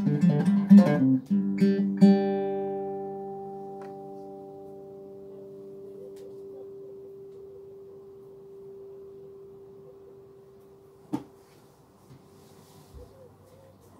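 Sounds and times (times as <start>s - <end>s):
acoustic guitar note ringing: 0.0s - 11.6s.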